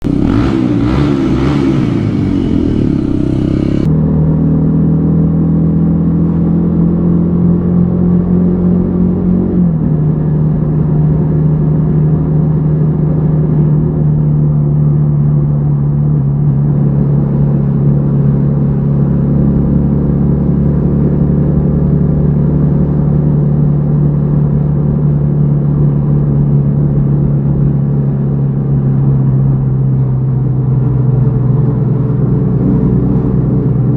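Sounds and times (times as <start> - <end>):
motorcycle engine running: 0.0 - 5.2, 9.9 - 33.9.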